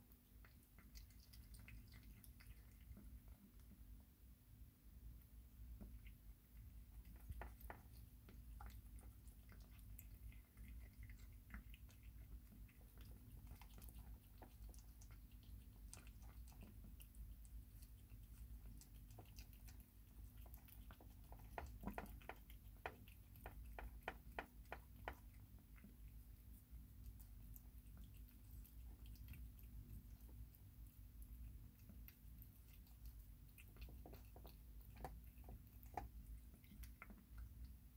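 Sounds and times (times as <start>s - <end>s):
kitten chewing wet food: 0.0s - 37.9s.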